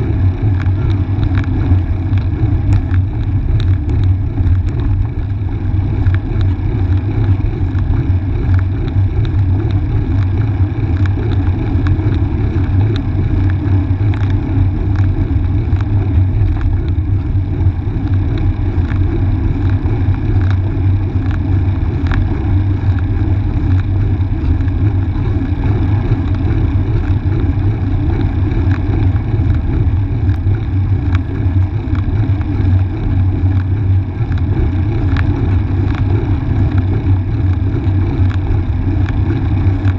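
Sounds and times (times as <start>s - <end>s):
road vibration rumble: 0.0s - 39.9s.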